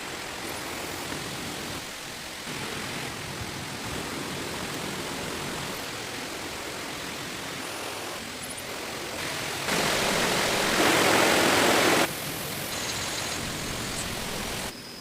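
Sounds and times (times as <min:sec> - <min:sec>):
heavy rain: 0:00.0 - 0:14.7.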